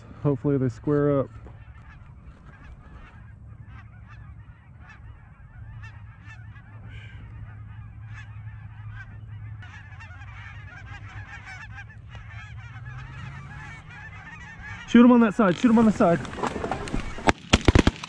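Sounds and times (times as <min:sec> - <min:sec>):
geese honking: 0:00.0 - 0:17.3
low steady hum: 0:00.0 - 0:17.3.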